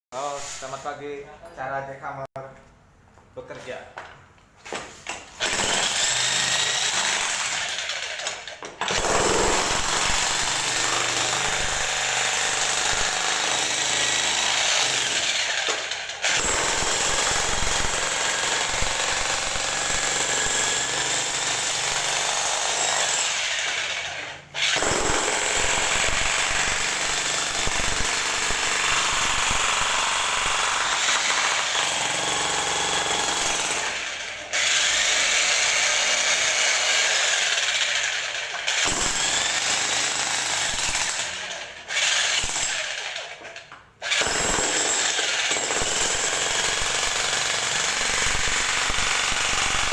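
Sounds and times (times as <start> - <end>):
jackhammer hammering: 5.4 - 43.3, 44.1 - 49.9.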